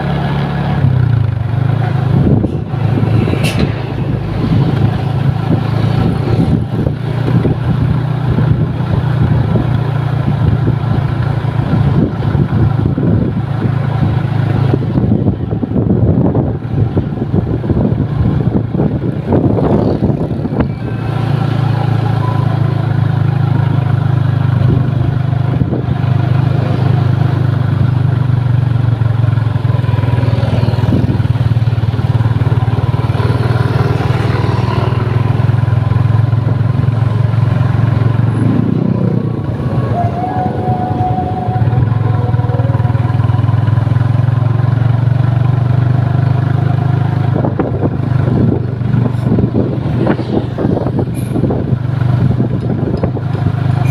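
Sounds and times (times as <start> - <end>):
large vehicle engines droning: 0.0 - 53.9
road traffic: 0.0 - 53.9.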